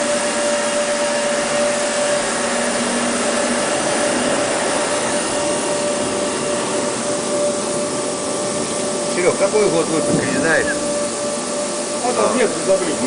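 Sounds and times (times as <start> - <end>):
electric motors whirring: 0.0 - 13.0
low hum: 0.0 - 13.0
motor whine: 0.0 - 13.0.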